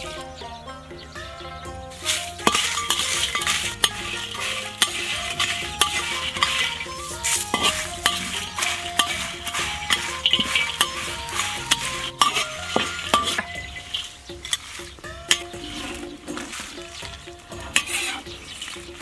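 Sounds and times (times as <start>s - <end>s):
spices sizzling: 0.0s - 19.0s
spatula scraping and clanking in wok: 1.9s - 19.0s.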